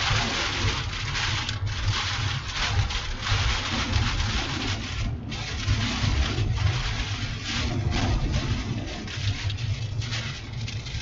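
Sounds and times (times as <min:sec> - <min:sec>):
car road rumble: 0:00.0 - 0:11.0
water splashing from tyres: 0:00.0 - 0:11.0.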